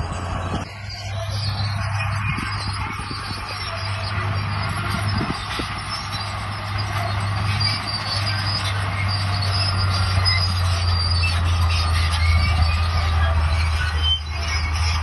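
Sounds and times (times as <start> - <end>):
diesel engine drone: 0.0 - 15.0
metallic squealing of tracks: 0.0 - 15.0.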